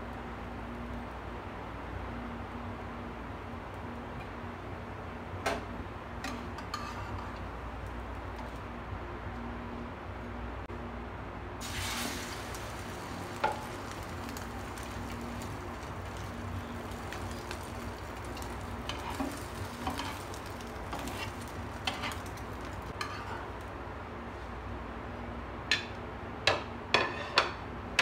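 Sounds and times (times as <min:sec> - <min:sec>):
bread frying in oil: 0:00.0 - 0:10.5, 0:11.6 - 0:25.9.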